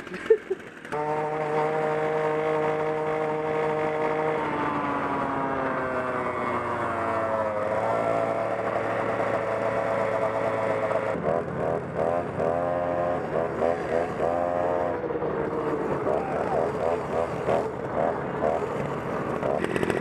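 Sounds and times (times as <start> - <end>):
small two-stroke scooter engine: 0.0 - 20.0.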